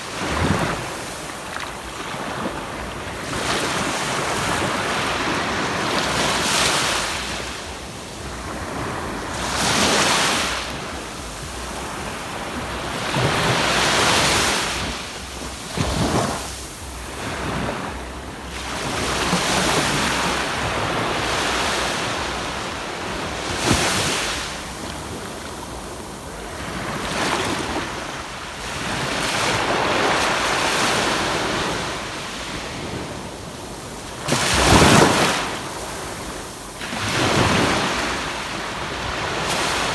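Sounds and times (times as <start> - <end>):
waves breaking on a beach: 0.0 - 39.9
wind on microphone: 0.0 - 39.9.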